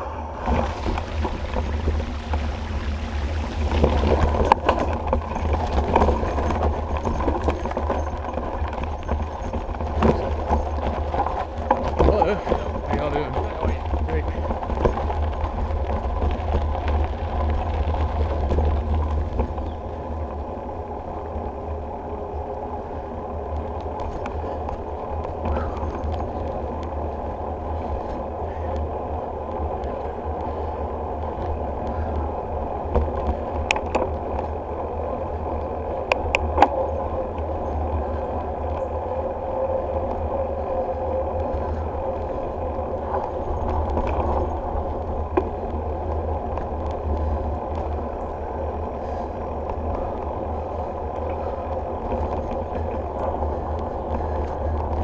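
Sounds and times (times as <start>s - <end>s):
bicycle rattling over bumps: 0.0s - 55.0s
wind and bicycle tyres rumbling: 0.0s - 55.0s.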